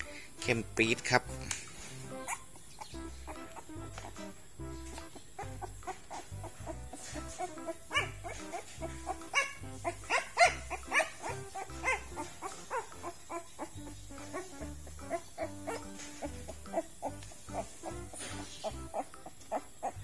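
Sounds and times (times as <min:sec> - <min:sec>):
music with steady beat: 0:00.0 - 0:20.0
puppy whining and squealing: 0:02.1 - 0:20.0.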